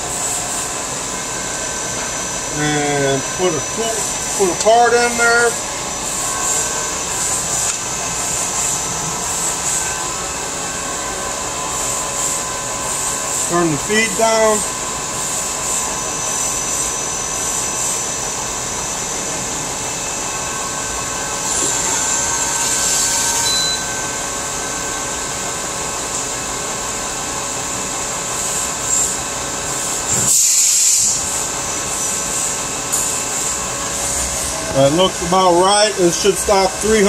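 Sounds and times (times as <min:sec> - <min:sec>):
lathe machine hum: 0:00.0 - 0:30.2, 0:31.0 - 0:37.0.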